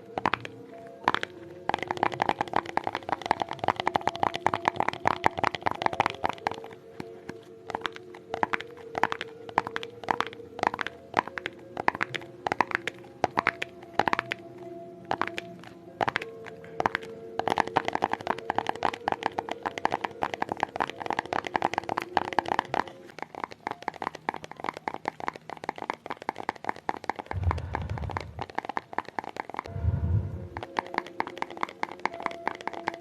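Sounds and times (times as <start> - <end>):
crisp tapping: 0.0 - 29.7, 30.5 - 33.0
faint steady background tones: 0.0 - 33.0.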